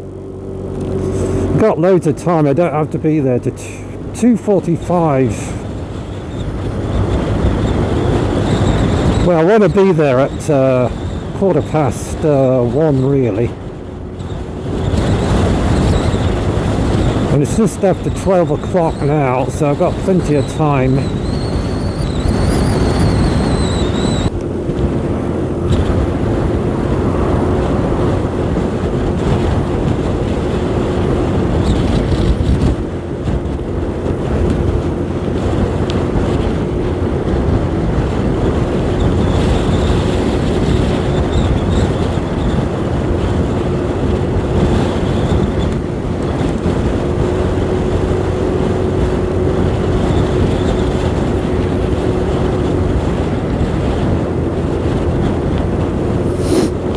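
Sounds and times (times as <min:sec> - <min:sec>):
heavy wind rush: 0:00.0 - 0:56.9
motorbike engine: 0:00.0 - 0:56.9.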